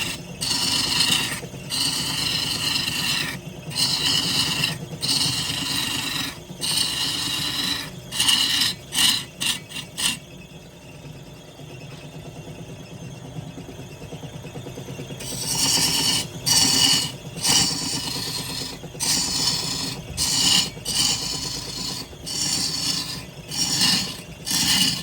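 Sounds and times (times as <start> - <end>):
tool rasping against turning wood: 0.0 - 10.2, 15.2 - 25.0
lathe low hum: 0.0 - 25.0.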